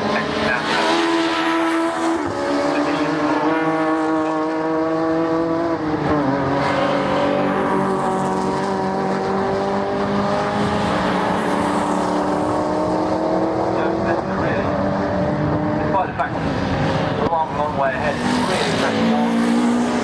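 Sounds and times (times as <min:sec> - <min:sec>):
racing car engine accelerating: 0:00.0 - 0:20.0.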